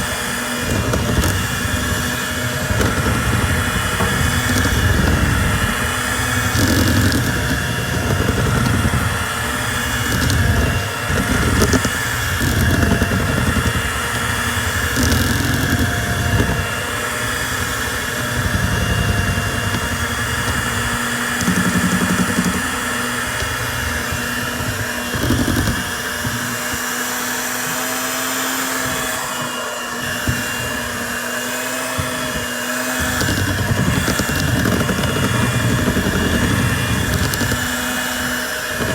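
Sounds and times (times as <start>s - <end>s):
beaters churning batter: 0.0s - 38.9s
electric hand mixer whine: 0.0s - 38.9s.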